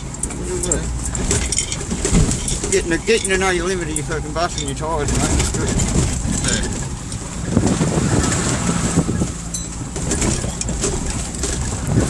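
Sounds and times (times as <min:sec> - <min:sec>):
tyres knocking and crunching: 0:00.0 - 0:07.8, 0:09.6 - 0:12.0
off-road vehicle engine crawling: 0:00.0 - 0:12.0.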